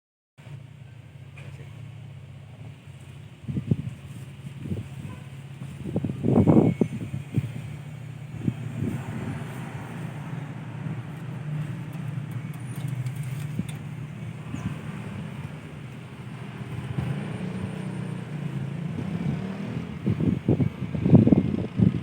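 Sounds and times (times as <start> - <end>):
small engine idling: 0.4 - 22.0.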